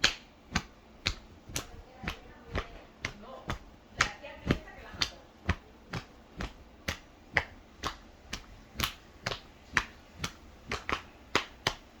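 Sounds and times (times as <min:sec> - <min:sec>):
child patting hands on legs: 0:00.0 - 0:12.0.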